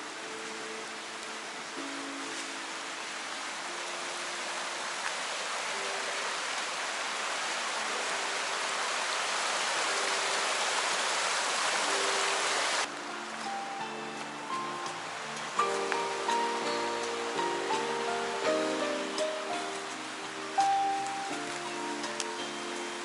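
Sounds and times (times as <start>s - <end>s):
quiet background music: 0.0s - 23.0s
steady hiss: 0.0s - 23.0s.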